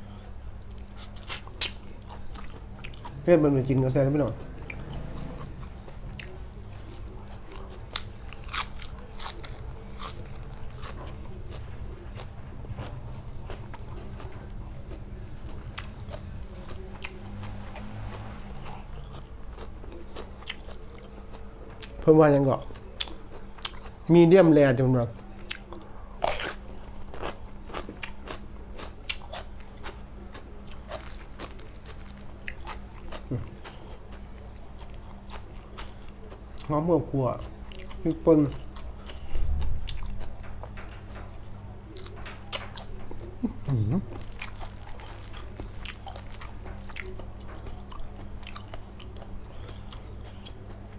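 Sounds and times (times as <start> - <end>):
person chewing crunchy food: 0.6 - 22.0, 22.6 - 24.1, 25.2 - 36.7, 37.3 - 41.2, 41.9 - 50.9.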